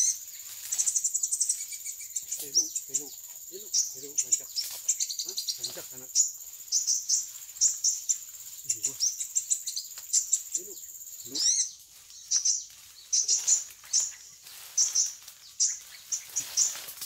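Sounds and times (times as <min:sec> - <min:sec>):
high insect buzz: 0:00.0 - 0:17.0
small birds chirping: 0:00.0 - 0:17.0.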